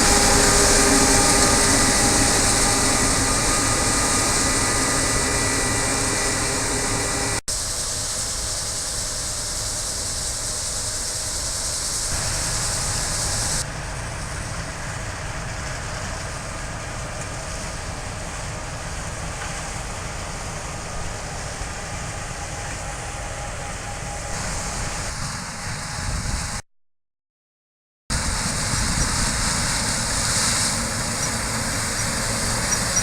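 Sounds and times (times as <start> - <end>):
hiss: 0.0 - 14.8, 17.2 - 26.6, 28.1 - 33.0
heavy farm machinery rumbling: 0.0 - 26.5, 28.1 - 33.0.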